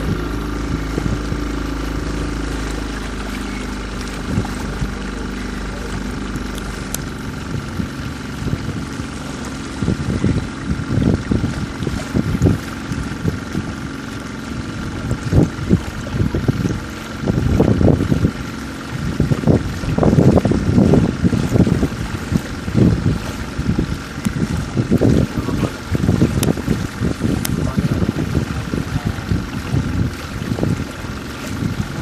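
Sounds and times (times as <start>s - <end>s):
buffeting bursts: 0.0s - 32.0s
motorboat engine running: 0.0s - 32.0s.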